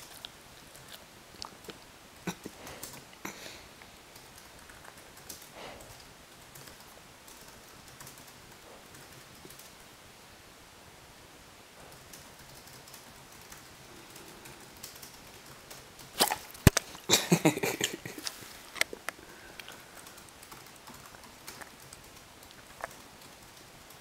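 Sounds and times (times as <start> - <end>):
faint keyboard typing: 0.0 - 9.9, 11.8 - 24.0.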